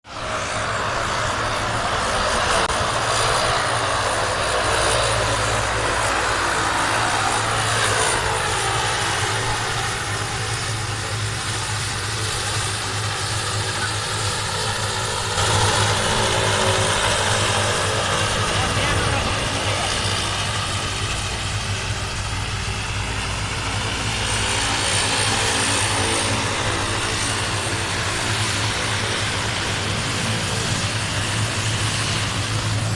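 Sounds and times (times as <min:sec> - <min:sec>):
airliner engines droning: 0:00.0 - 0:32.9.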